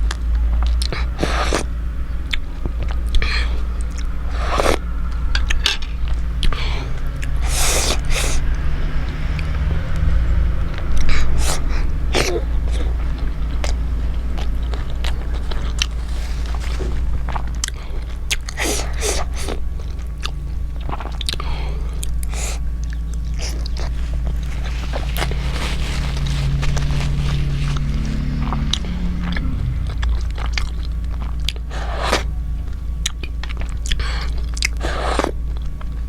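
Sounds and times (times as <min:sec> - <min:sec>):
chewing and biting: 0:00.0 - 0:36.0
steady low hum: 0:00.0 - 0:36.0.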